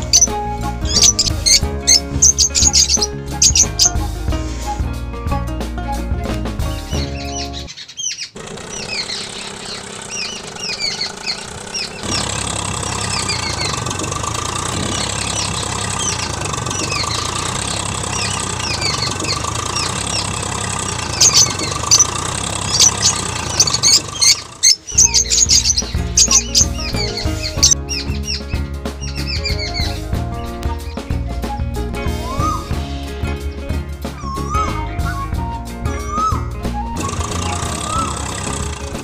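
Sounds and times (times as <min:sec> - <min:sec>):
birds chirping: 0:00.0 - 0:05.2, 0:06.5 - 0:39.0
tractor engine running: 0:00.0 - 0:39.0.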